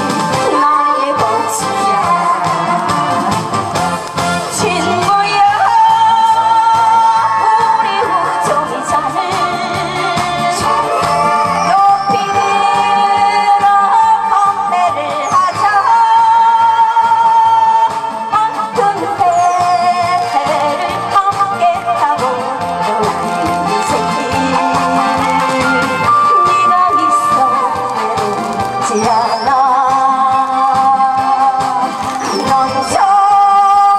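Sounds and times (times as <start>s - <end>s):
backing track with steady beat: 0.0s - 33.9s
person singing into a microphone: 0.0s - 33.9s.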